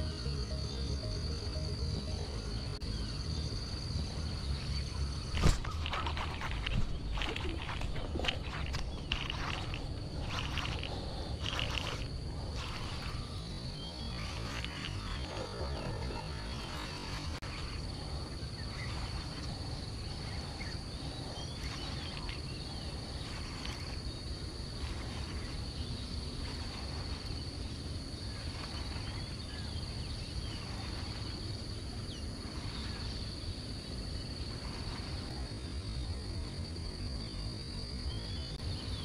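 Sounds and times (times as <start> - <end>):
low rumble: 0.0 - 38.9
high-pitched insect drone: 0.0 - 39.0.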